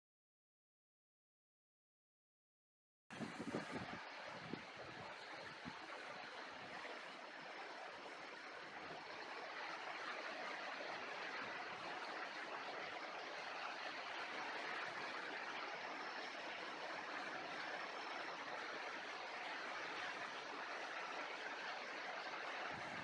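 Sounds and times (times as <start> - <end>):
flowing water rushing: 3.1 - 23.0.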